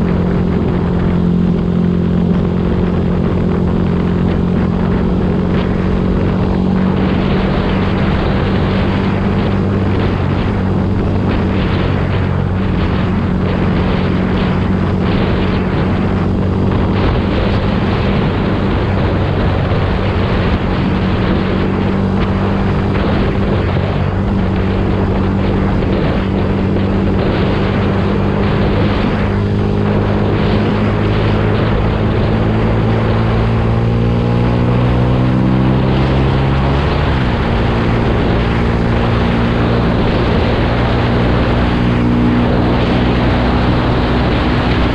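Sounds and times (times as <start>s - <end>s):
motorcycle engine droning: 0.0s - 44.9s.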